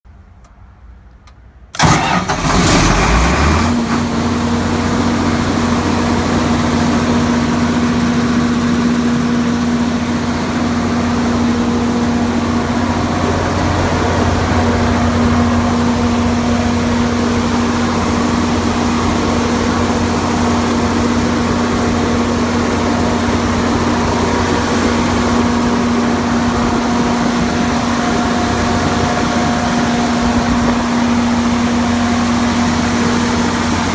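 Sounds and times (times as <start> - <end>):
diesel generator engine starting: 1.7 - 33.9.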